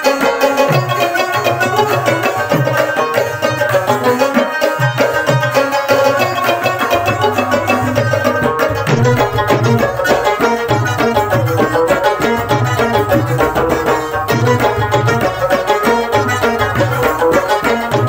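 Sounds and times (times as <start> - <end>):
plucked string melody: 0.0 - 18.0
tabla rhythm: 0.0 - 18.0.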